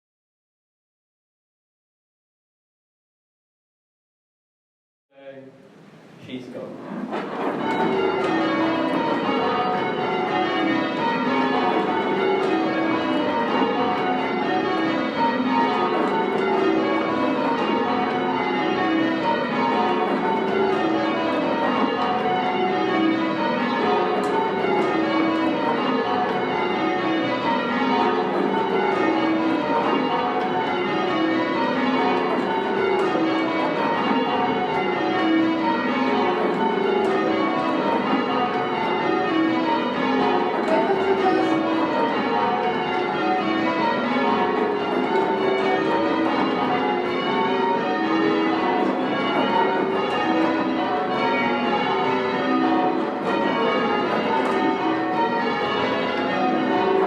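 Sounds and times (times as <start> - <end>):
church bells ringing changes: 7.2 - 57.0.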